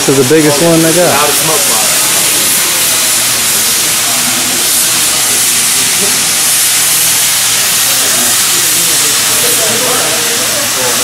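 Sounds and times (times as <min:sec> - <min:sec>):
loud hiss of escaping steam: 0:00.0 - 0:11.0.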